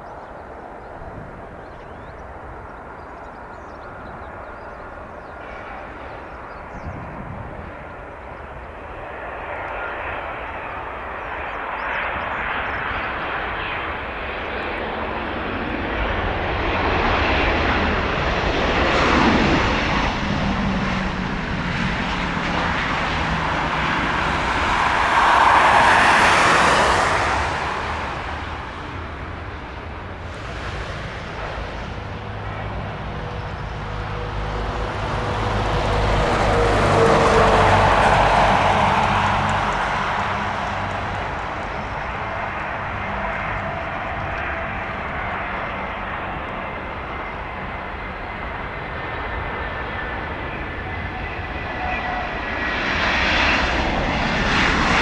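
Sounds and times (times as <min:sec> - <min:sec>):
jet engine whine on approach: 0:00.0 - 0:55.0
jet engines landing: 0:00.0 - 0:55.0.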